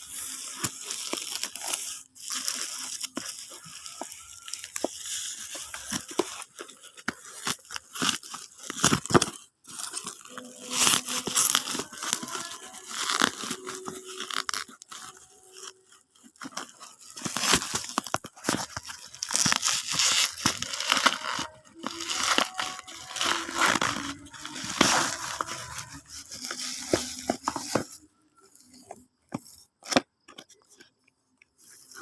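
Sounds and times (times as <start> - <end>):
packaging tearing and crinkling: 0.0 - 30.4.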